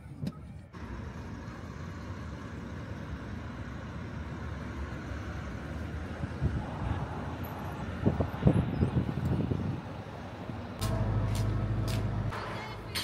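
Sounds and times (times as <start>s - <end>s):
cars and truck driving past: 0.7s - 13.0s.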